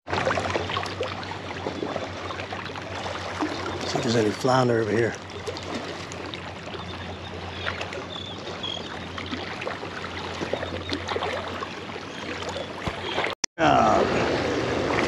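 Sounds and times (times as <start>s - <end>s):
water splashing against rocks: 0.1s - 15.0s.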